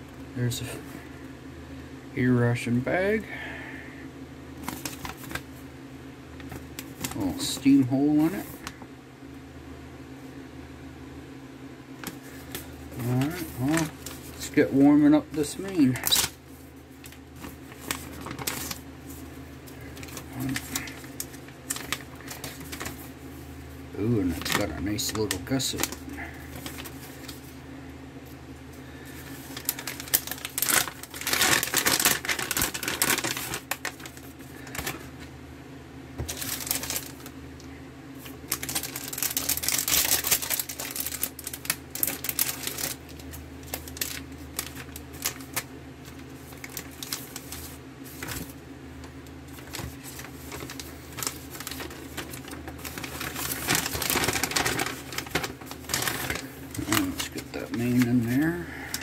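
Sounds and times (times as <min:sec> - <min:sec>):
plastic and foil packaging crinkling: 0:04.6 - 0:05.6, 0:06.4 - 0:08.8, 0:12.0 - 0:27.6, 0:28.8 - 0:35.2, 0:36.2 - 0:37.4, 0:38.2 - 0:59.0.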